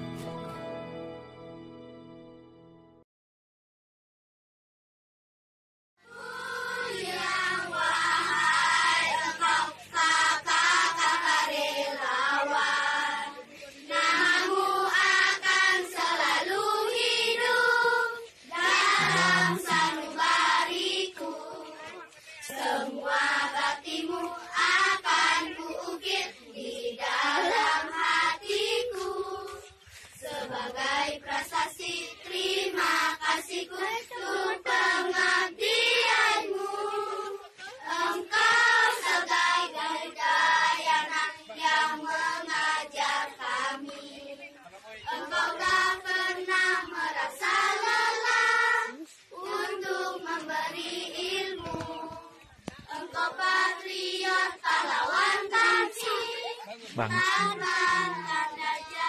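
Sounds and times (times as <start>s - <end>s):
girls singing together: 6.1s - 44.4s, 45.1s - 59.0s.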